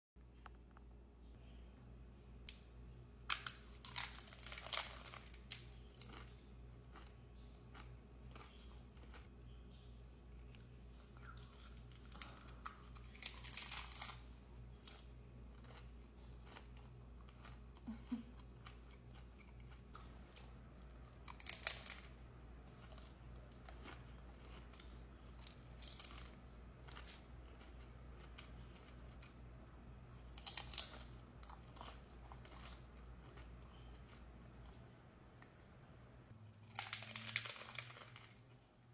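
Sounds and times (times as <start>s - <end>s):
crunching bites of taco shells: 3.2s - 9.3s, 11.2s - 34.6s, 36.4s - 38.6s
chewing crackles: 3.4s - 9.4s, 10.4s - 35.6s.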